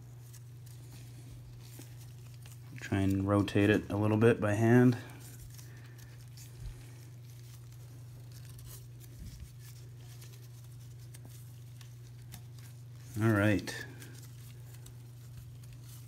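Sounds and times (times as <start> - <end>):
rustling and handling noises: 0.0 - 16.0
steady low hum: 0.0 - 16.0.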